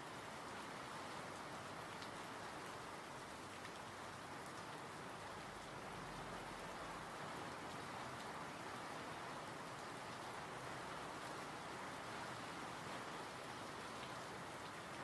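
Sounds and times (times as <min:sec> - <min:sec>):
gentle rainfall hiss: 0:00.0 - 0:15.0.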